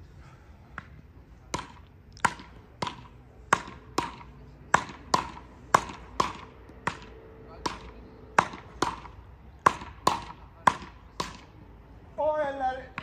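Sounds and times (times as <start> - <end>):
paddles hitting ball: 0.7 - 11.5.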